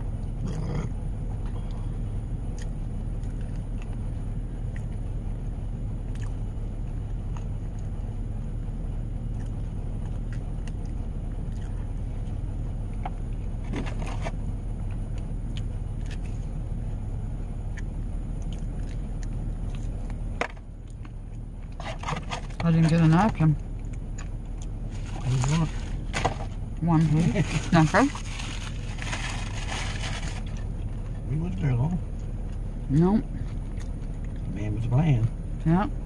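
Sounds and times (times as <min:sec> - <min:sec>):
van engine humming: 0:00.0 - 0:36.0.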